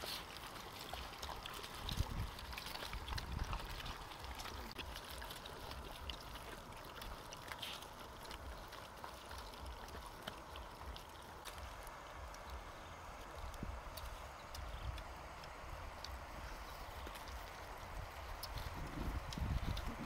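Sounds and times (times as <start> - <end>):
dogs chewing and gnawing: 0.0 - 20.0.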